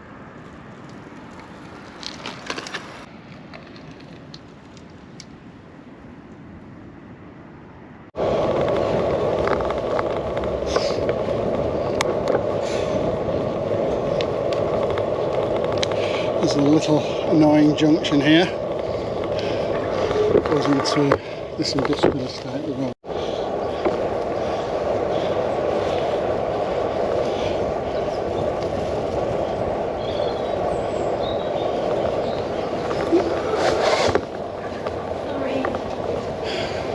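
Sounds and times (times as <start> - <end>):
bicycle tyre rumble: 0.0 - 5.9, 8.2 - 36.9
bike clicks and rattles: 0.4 - 5.4, 8.2 - 36.9.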